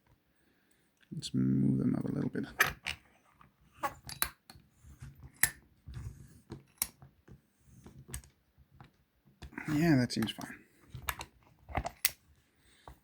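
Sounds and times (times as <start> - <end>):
faint handling noise: 0.0 - 13.0.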